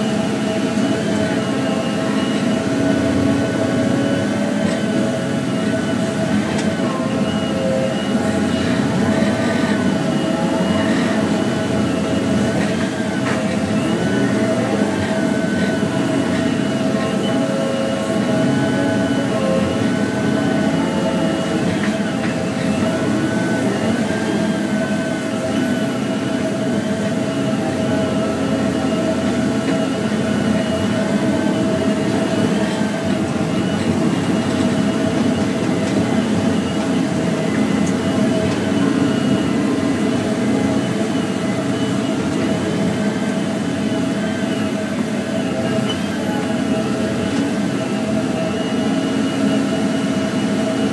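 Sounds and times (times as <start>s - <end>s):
diesel engine and hydraulics droning: 0.0s - 50.9s.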